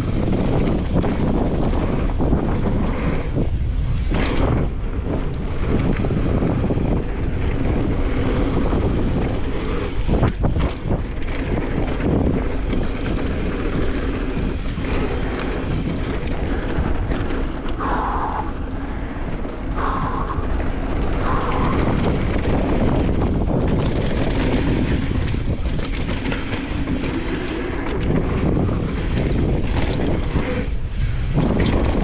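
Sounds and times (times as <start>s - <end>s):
bike clicks and rattles: 0.0s - 32.0s
tyres rumbling on dirt: 0.0s - 32.0s
wind buffeting microphone: 0.0s - 32.0s.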